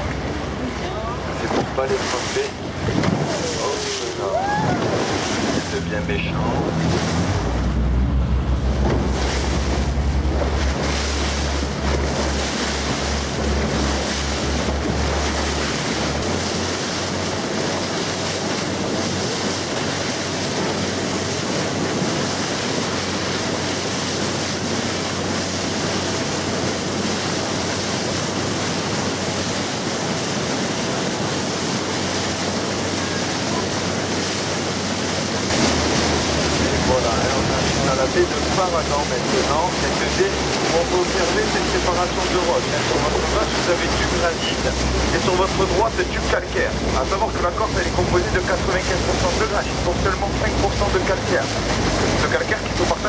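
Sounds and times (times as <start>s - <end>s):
wind buffeting microphone: 0.0s - 52.8s
sea water rushing around boat: 0.0s - 53.0s.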